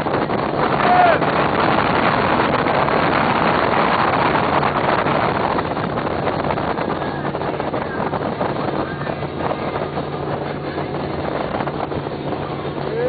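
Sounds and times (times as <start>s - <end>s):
powerboat engine drone: 0.0s - 13.0s
wind and water rushing: 0.0s - 13.0s.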